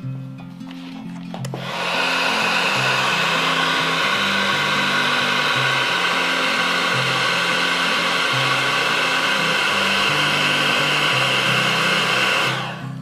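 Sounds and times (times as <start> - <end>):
background music: 0.0 - 13.0
heat gun blowing: 1.4 - 13.0.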